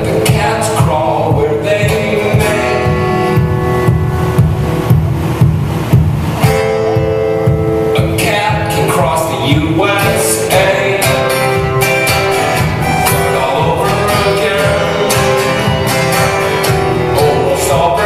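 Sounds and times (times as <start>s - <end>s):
acoustic guitar strumming: 0.0s - 18.0s
long held guitar notes: 0.0s - 18.0s.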